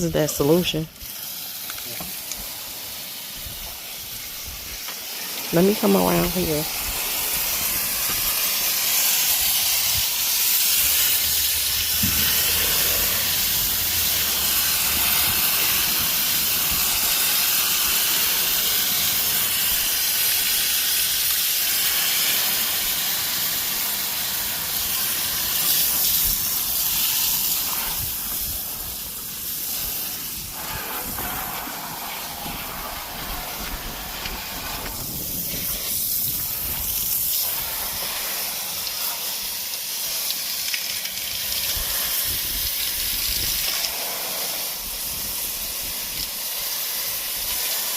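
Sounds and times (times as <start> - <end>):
pressure washer spraying: 0.0 - 47.9.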